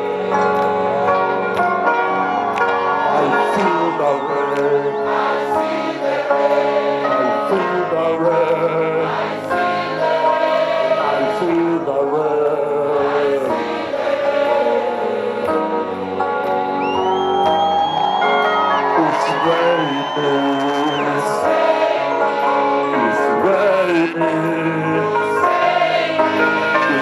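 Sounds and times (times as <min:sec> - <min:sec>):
choir singing with instruments: 0:00.0 - 0:27.0.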